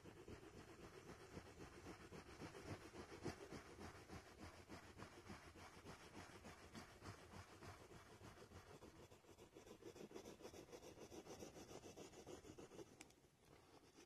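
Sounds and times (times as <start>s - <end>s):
drawing stick scratching on paper: 0.0s - 14.0s.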